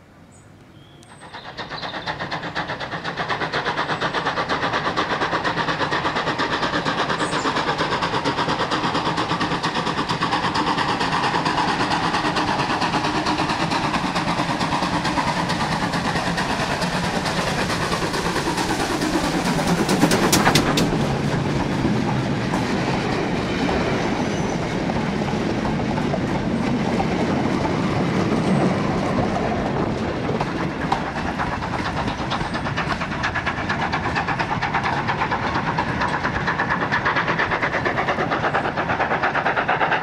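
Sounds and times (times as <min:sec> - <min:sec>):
steam locomotive exhaust beating: 0:01.0 - 0:40.0.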